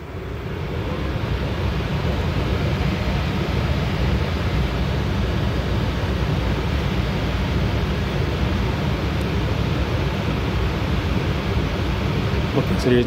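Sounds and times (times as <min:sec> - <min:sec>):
rushing air noise: 0:00.0 - 0:13.0.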